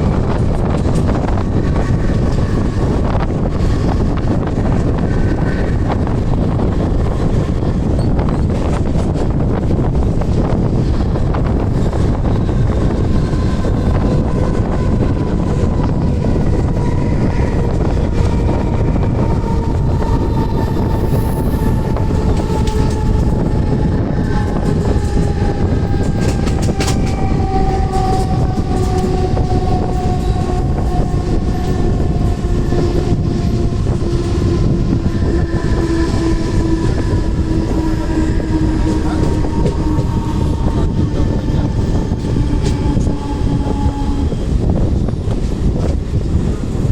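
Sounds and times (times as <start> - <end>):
train motor whine: 0.0 - 46.8
rail clicks: 0.0 - 46.9
train wheels rumbling on rails: 0.0 - 46.9.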